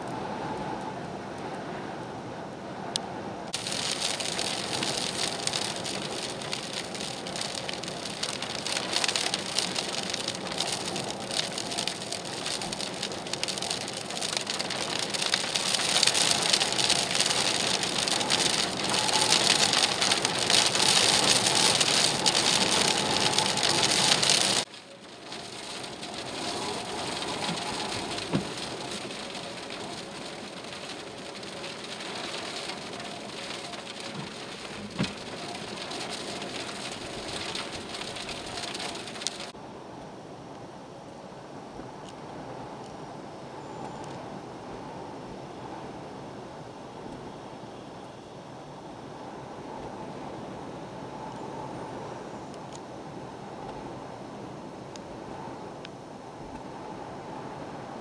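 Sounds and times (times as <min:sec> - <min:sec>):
driving rain: 0:00.0 - 0:58.0
wind: 0:00.0 - 0:58.0.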